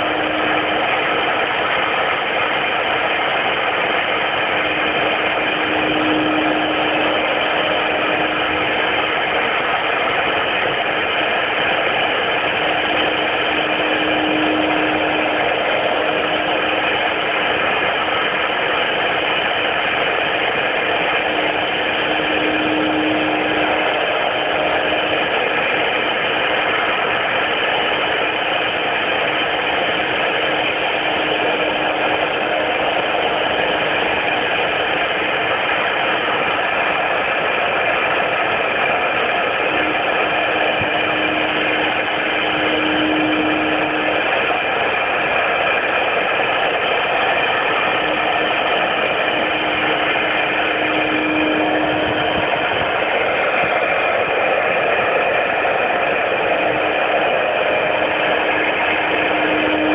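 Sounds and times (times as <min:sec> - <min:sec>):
cnc router spindle running: 0:00.0 - 0:59.9.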